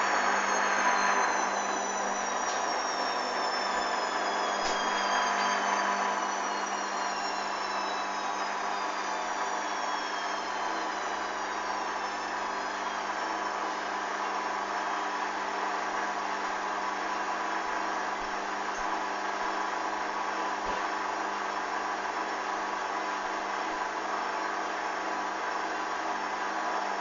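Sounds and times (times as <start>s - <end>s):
washing machine running: 0.0s - 27.0s.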